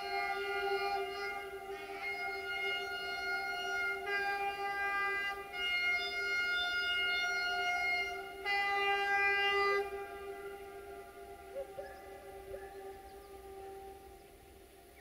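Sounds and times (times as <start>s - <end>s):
diesel locomotive air horn blasts: 0.0s - 14.6s.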